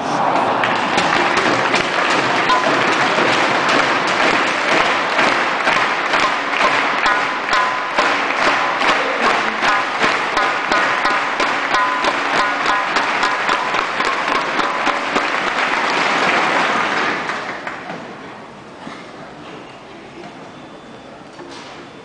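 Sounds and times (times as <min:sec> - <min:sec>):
crowd applauding: 0:00.0 - 0:18.2
hall murmur: 0:00.0 - 0:19.1.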